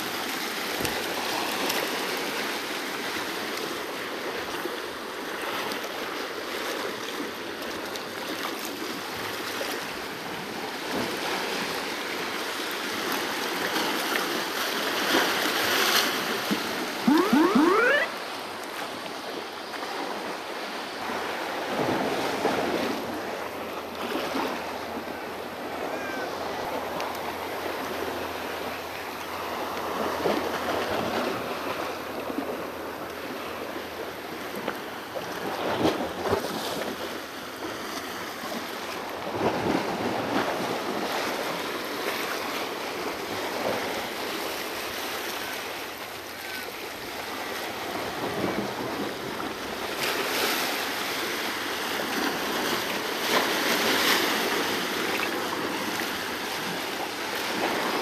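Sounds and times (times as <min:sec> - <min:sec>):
waves washing over rocks: 0:00.0 - 0:17.0, 0:19.8 - 0:58.0.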